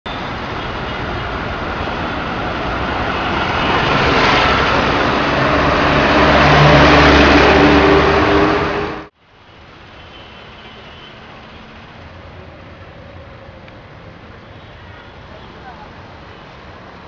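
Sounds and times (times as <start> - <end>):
street traffic rush: 0.0 - 17.0.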